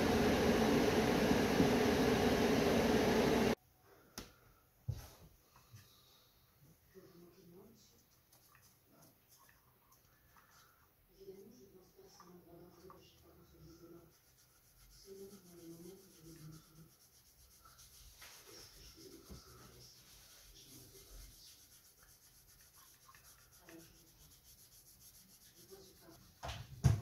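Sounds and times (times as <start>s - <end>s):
faint rubbing and handling noises: 4.9s - 26.8s.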